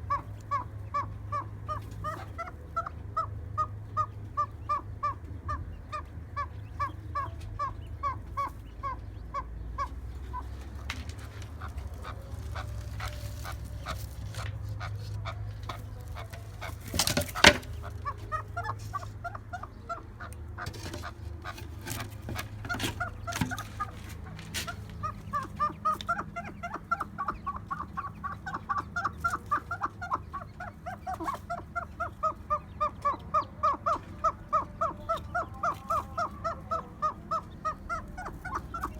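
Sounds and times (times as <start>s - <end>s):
pet birds calling: 0.0s - 38.9s.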